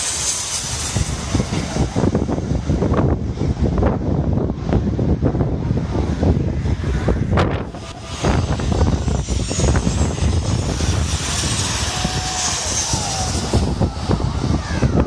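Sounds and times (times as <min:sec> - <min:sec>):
jet plane passing overhead: 0:00.0 - 0:15.0
wind buffeting microphone: 0:00.0 - 0:15.0.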